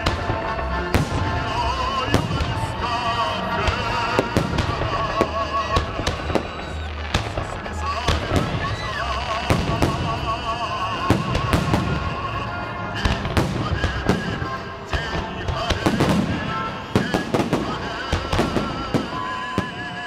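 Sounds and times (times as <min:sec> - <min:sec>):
fireworks bangs: 0:00.0 - 0:20.0
music playing: 0:00.0 - 0:20.0.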